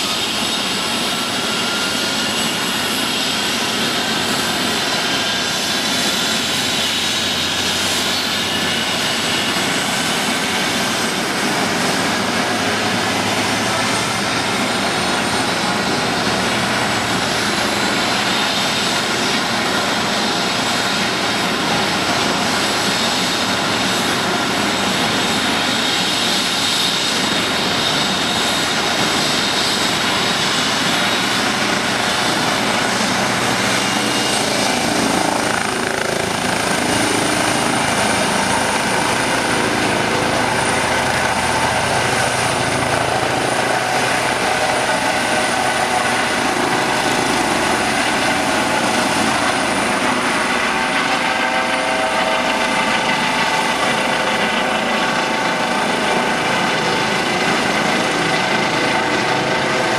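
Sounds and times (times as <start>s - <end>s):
helicopter rotors and turbines: 0.0s - 59.9s
high turbine whine: 0.0s - 59.9s.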